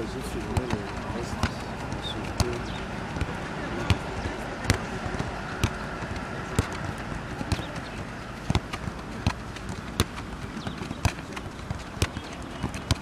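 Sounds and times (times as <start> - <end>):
football kick thuds: 0.0 - 13.0
outdoor background noise: 0.0 - 13.0.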